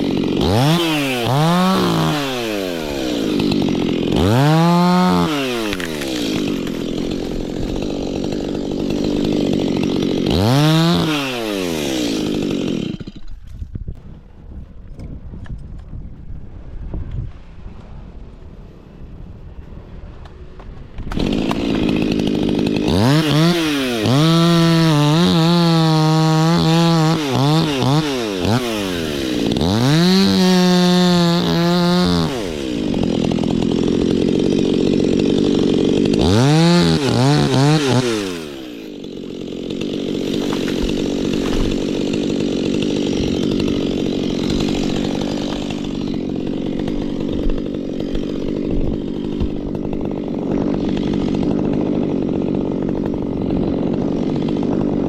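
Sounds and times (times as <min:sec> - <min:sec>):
chainsaw revving: 0:00.0 - 0:13.5, 0:21.0 - 0:55.0.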